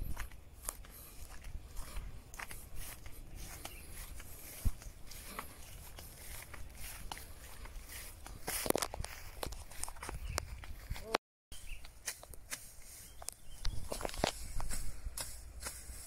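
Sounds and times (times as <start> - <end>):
footsteps rustling through grass: 0.0 - 16.0.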